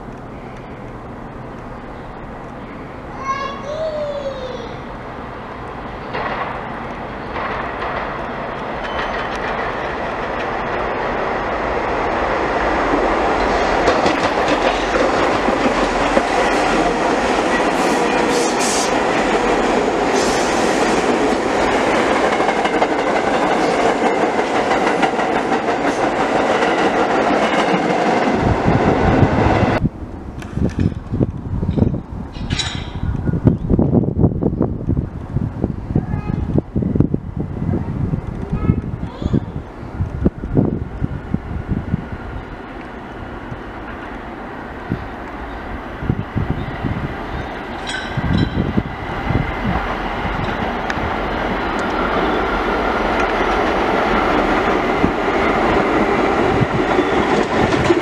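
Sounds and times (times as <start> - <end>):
subway train passing: 0.0 - 58.0
wheels clicking and rumbling on rails: 0.0 - 58.0.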